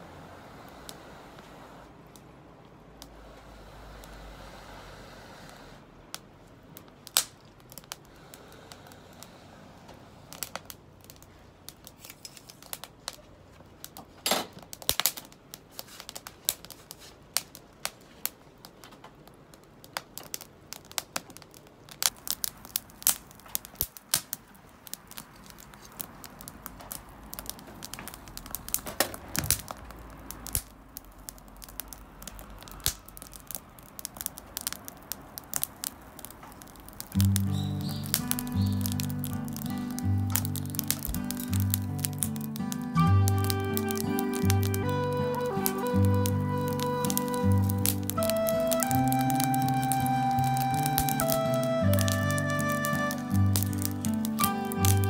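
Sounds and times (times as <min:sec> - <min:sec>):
fire crackling and popping: 0:00.0 - 0:55.0
low hiss of burning: 0:00.0 - 0:55.0.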